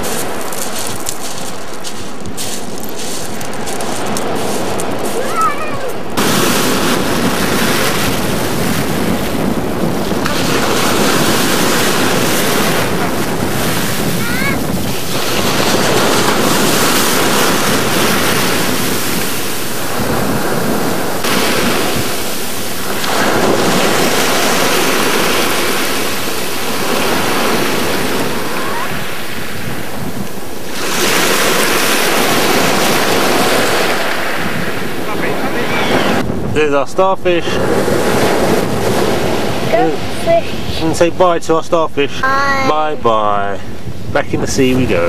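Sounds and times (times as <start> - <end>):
surf washing on shingle: 0.0 - 45.0
wind rumbling on microphone: 0.0 - 45.0.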